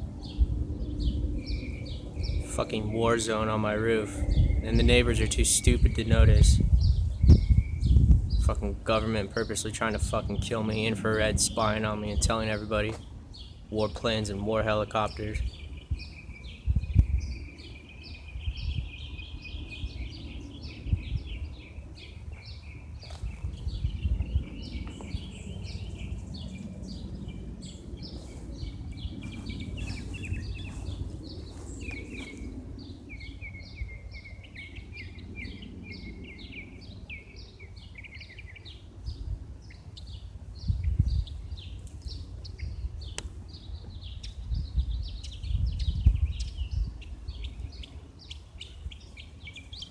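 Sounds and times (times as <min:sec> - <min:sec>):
gusty low rumble: 0:00.0 - 0:13.7, 0:15.4 - 0:49.8
small birds chirping: 0:00.0 - 0:49.9.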